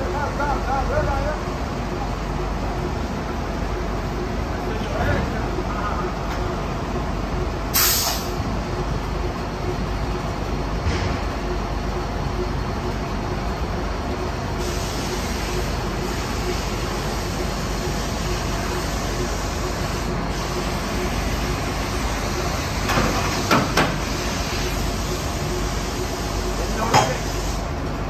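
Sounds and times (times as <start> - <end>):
drilling rig engine and hydraulics: 0.0 - 28.0.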